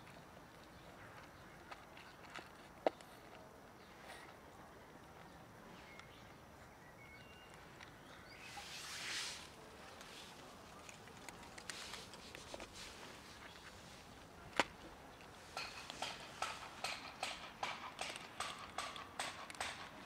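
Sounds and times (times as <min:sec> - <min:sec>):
cats crunching dry kibble: 0:00.0 - 0:06.6, 0:07.3 - 0:08.2, 0:09.4 - 0:20.0.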